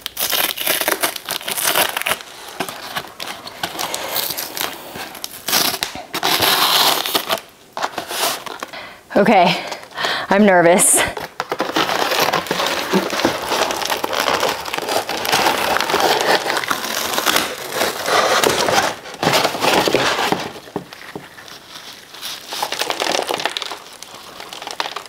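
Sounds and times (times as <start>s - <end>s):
paper and plastic crinkling: 0.0s - 8.8s, 10.8s - 25.0s.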